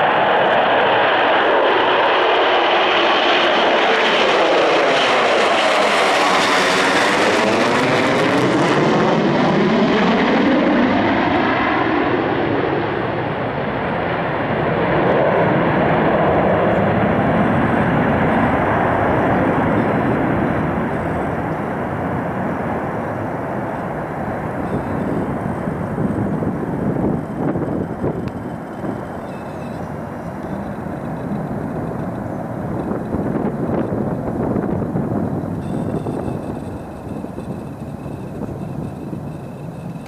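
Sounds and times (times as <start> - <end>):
jet bomber flying overhead: 0.0 - 40.0.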